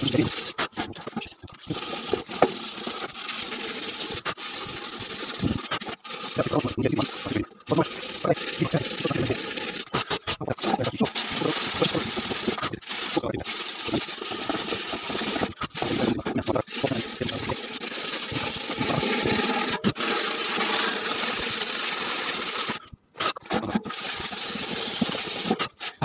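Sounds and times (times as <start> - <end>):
wire scrubber scraping metal: 0.0 - 26.0.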